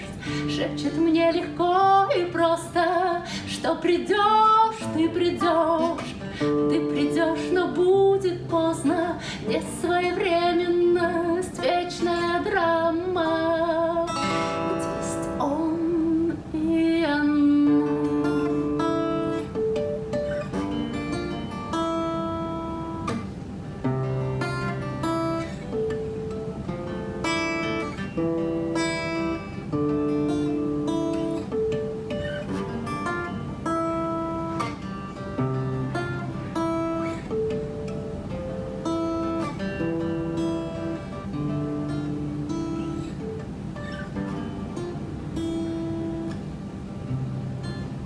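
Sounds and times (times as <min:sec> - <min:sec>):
acoustic guitar playing: 0:00.0 - 0:48.0.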